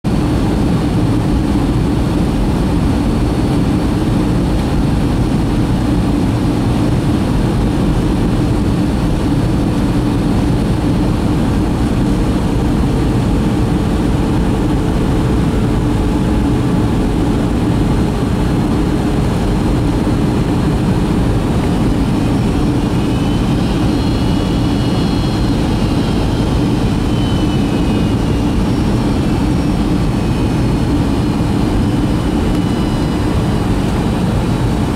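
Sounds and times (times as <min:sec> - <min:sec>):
faint high whine: 0:00.1 - 0:34.9
jet cabin drone: 0:00.1 - 0:34.9.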